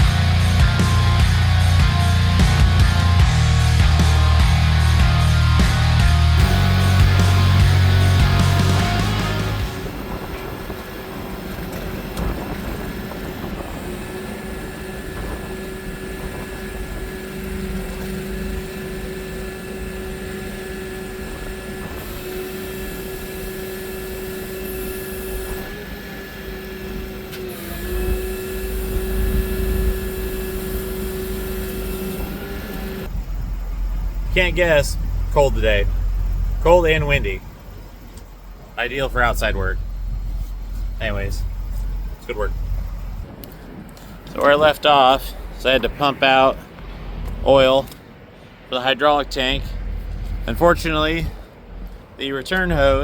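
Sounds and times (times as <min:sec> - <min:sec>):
forklift engine whine and rumble: 0:00.0 - 0:53.0.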